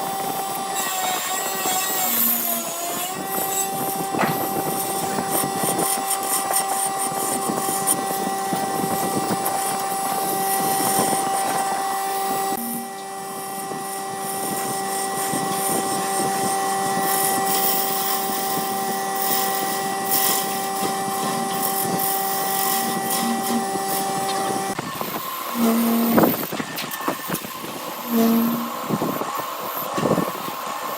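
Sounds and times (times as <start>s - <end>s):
turning tool cutting wood: 0.0s - 30.4s
wood lathe whine: 0.0s - 30.9s.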